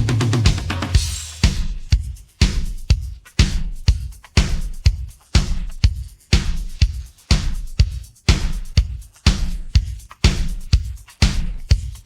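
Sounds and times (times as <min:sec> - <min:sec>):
bass drum thuds: 0:00.0 - 0:11.8.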